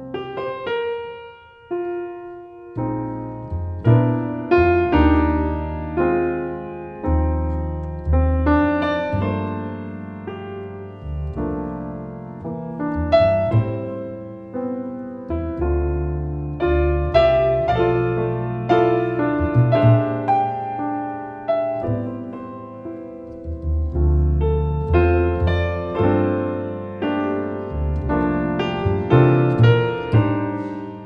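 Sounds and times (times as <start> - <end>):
piano chords and melody: 0.0 - 31.0
deep sustained double bass notes: 2.7 - 31.0.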